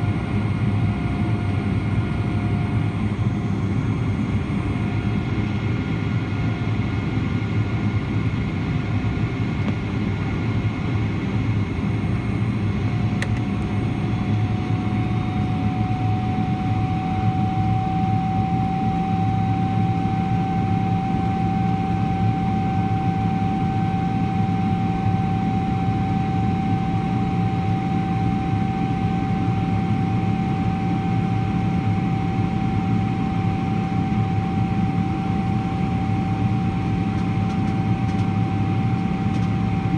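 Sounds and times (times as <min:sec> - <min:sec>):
jet engine roar with whine: 0:00.0 - 0:39.9.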